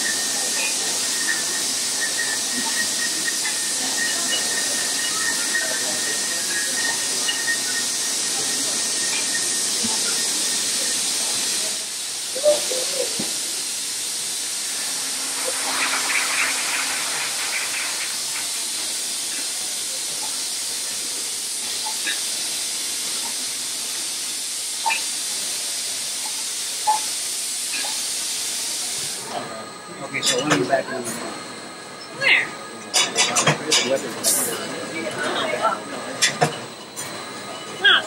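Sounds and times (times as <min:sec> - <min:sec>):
filling machine hissing: 0:00.0 - 0:38.0.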